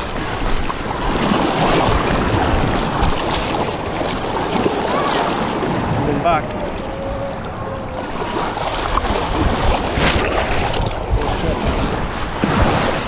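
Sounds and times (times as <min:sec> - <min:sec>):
surf washing around rocks: 0:00.0 - 0:13.0
wind buffeting microphone: 0:00.0 - 0:13.0.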